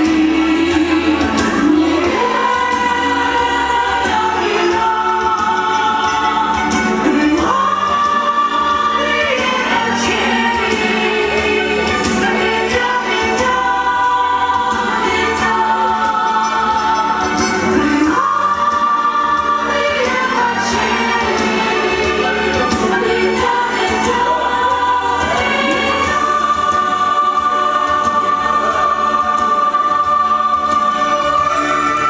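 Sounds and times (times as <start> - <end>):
choir-like voices singing: 0.0 - 32.0
instrumental backing: 0.0 - 32.0.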